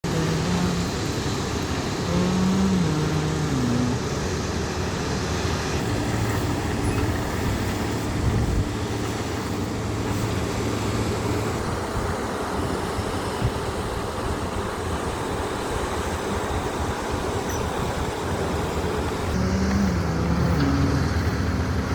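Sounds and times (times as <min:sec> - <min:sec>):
engine running: 0:00.0 - 0:21.9
steady hiss: 0:00.0 - 0:21.9.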